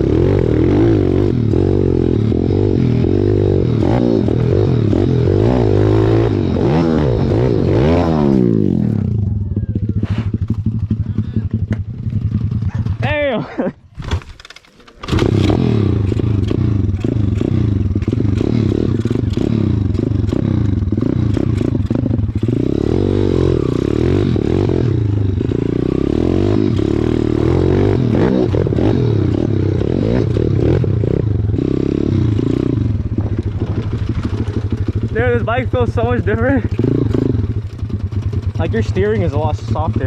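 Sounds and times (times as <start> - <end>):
motorbike engine running: 0.0 - 13.4, 15.0 - 40.0.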